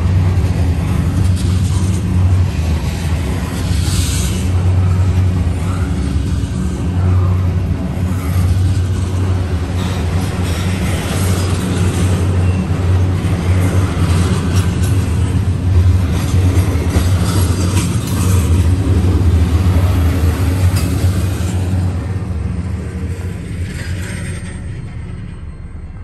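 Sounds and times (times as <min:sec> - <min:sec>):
wheels clanking over rail joints: 0:00.0 - 0:22.3
train wheels rumbling on rail: 0:00.0 - 0:26.0.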